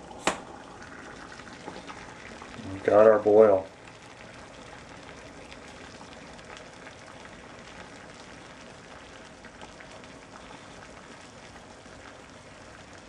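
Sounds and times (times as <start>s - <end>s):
water boiling in a metal pot: 0.0s - 13.0s
faint crackles: 0.1s - 13.0s.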